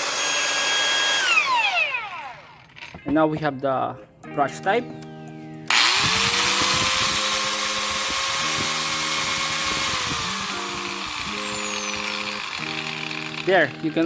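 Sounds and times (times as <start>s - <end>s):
angle grinder whining: 0.0s - 3.1s, 5.7s - 14.0s.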